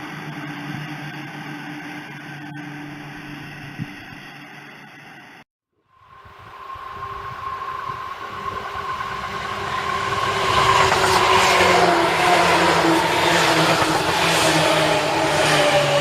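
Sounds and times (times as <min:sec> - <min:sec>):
train motor whine: 0:00.0 - 0:04.9, 0:05.9 - 0:16.0
electric train passing: 0:00.0 - 0:16.0.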